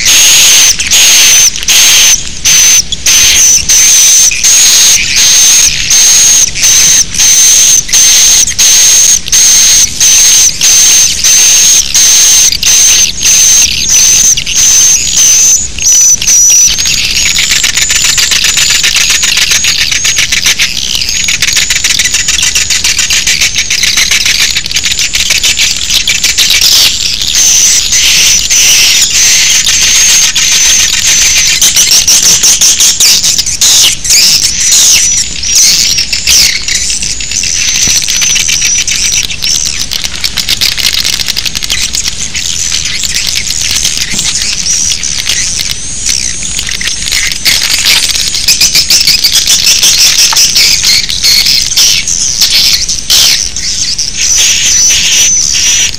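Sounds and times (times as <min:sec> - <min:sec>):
recorded bird twittering call: 0:00.0 - 0:55.9.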